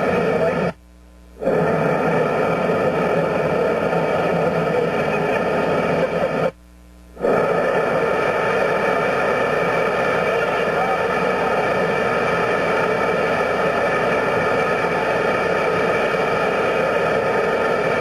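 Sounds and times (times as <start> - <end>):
gas burner roaring: 0.0 - 0.8, 1.4 - 6.5, 7.2 - 18.0.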